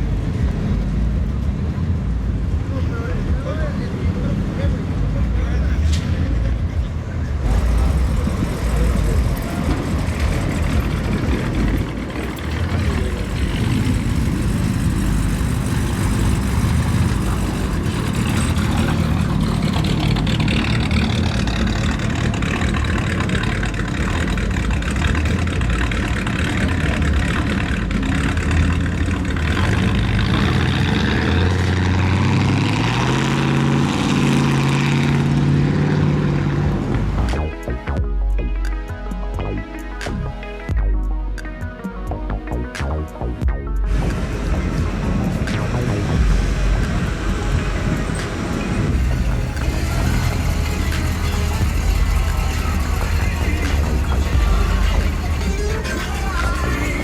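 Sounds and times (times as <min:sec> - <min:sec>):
car engine accelerating: 0:00.0 - 0:57.0
cars driving by: 0:00.0 - 0:57.0.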